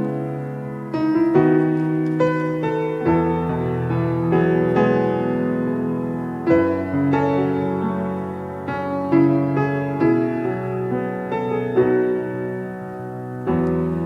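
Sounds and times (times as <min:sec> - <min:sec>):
piano playing slow chords: 0:00.0 - 0:14.0.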